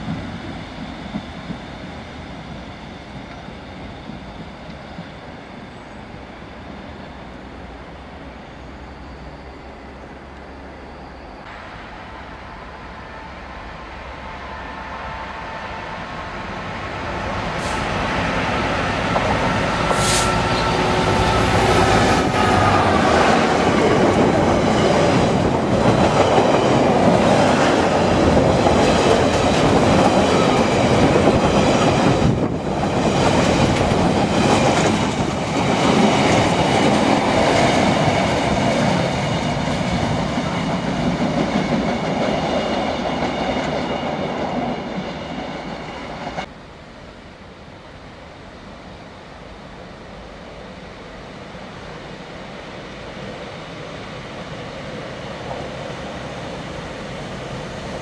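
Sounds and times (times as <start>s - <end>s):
diesel locomotive engine passing: 0.0s - 58.0s.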